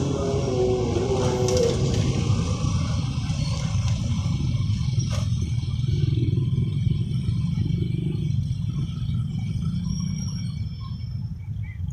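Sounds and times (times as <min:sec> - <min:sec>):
train clatter: 0:00.0 - 0:10.2
train wheels rumbling on rails: 0:00.0 - 0:11.8.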